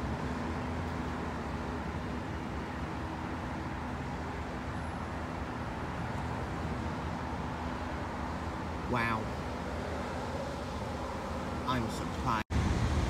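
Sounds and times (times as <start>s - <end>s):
car wash machinery rumble: 0.0s - 13.0s
road traffic noise: 0.0s - 13.0s.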